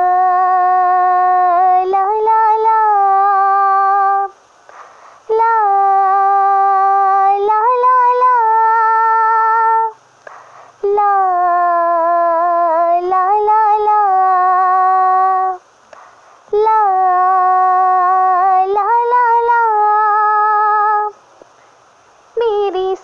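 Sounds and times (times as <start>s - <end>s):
young female voice singing: 0.0s - 4.4s, 5.2s - 10.0s, 10.8s - 15.7s, 16.5s - 21.2s, 22.3s - 23.0s.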